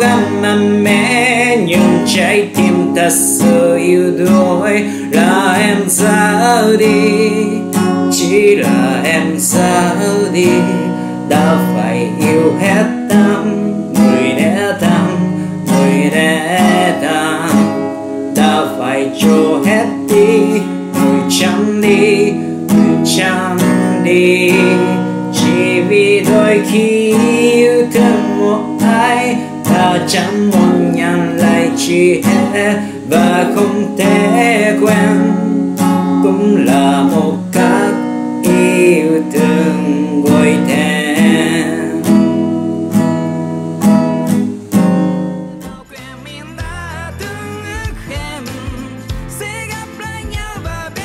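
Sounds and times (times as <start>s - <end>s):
man singing: 0.0s - 44.8s, 45.5s - 51.0s
acoustic guitar strumming: 0.0s - 51.0s.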